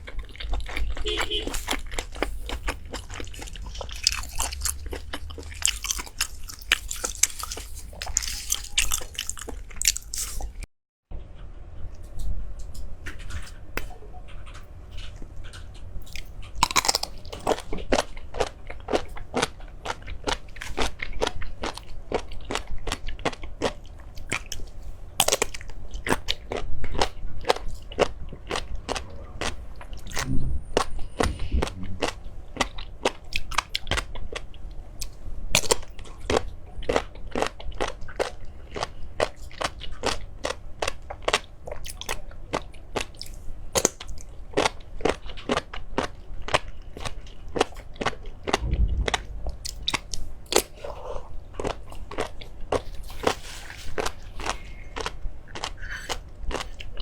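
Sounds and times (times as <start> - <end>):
crunchy food being chewed: 0.0 - 10.7, 11.4 - 57.0.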